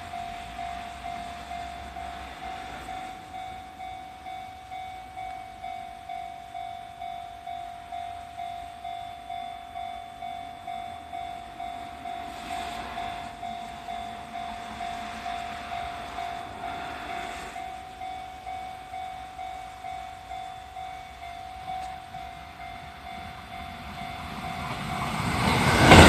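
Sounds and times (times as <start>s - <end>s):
level-crossing warning bell: 0.0s - 26.0s.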